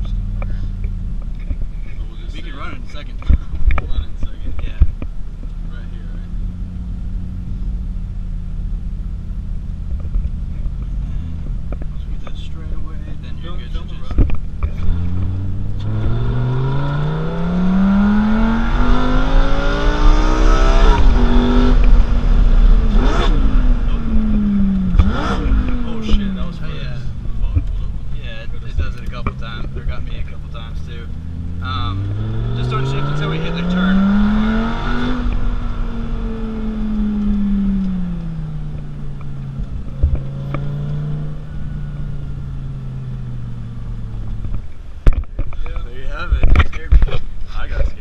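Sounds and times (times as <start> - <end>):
sports car engine revving: 0.0 - 48.0.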